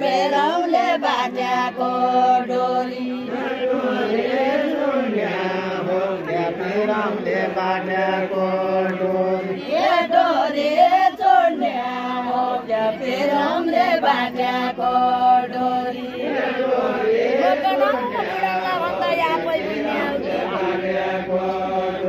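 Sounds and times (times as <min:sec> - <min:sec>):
men and women singing unaccompanied: 0:00.0 - 0:22.0.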